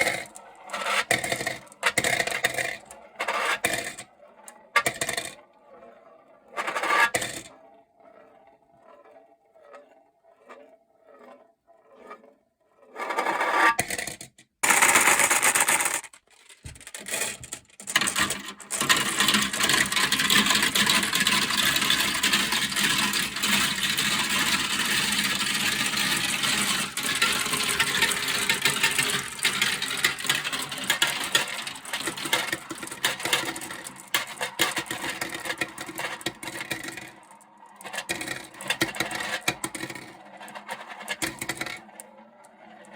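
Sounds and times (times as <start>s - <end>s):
marbles clattering down tracks: 0.0s - 5.5s, 6.6s - 7.6s, 13.3s - 42.9s
marble ticking on plastic track: 0.0s - 11.3s, 13.0s - 42.9s.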